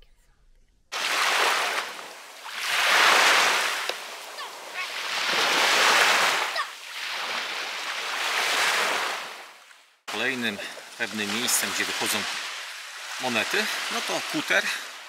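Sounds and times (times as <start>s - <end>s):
small waves breaking on shore: 0.9s - 15.0s.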